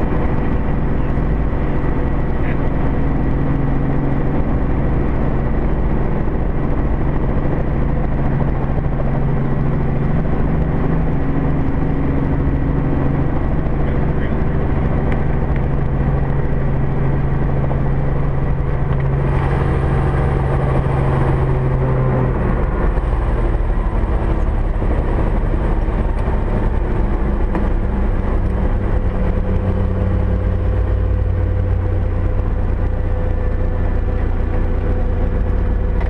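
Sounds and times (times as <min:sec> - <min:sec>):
light aircraft engine and propeller: 0:00.0 - 0:36.0.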